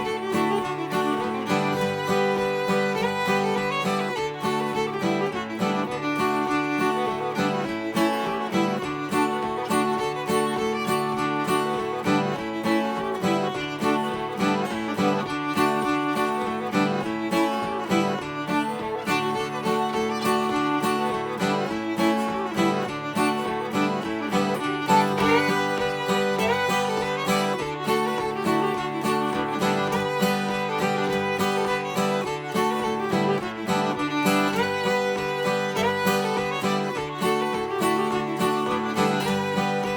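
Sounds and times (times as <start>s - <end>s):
fiddle melody: 0.0s - 39.9s
rhythm guitar strumming: 0.0s - 39.9s.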